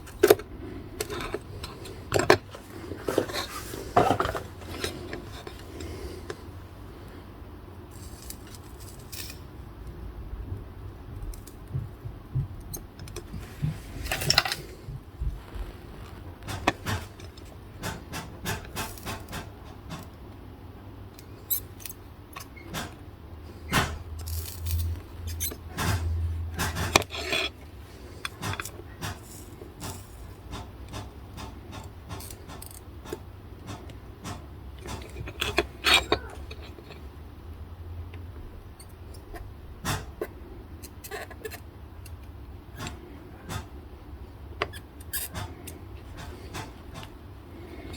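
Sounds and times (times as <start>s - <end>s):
hand tools clicking and scraping: 0.0s - 6.5s, 7.9s - 9.5s, 11.3s - 20.2s, 23.7s - 37.1s, 38.8s - 43.8s, 44.6s - 47.9s
low steady hum: 0.0s - 47.9s.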